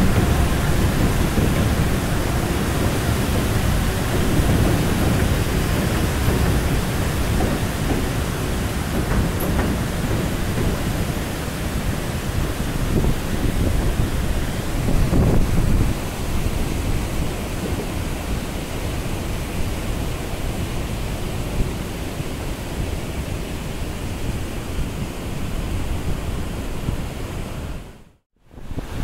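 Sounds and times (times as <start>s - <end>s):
wind buffeting microphone: 0.0s - 27.9s, 28.5s - 29.0s.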